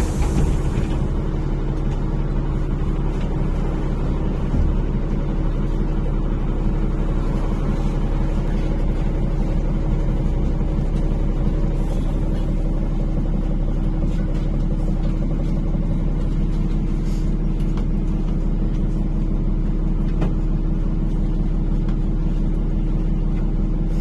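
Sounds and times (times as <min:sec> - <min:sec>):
bus engine drone: 0:00.0 - 0:24.0
road and cabin noise: 0:00.0 - 0:24.0.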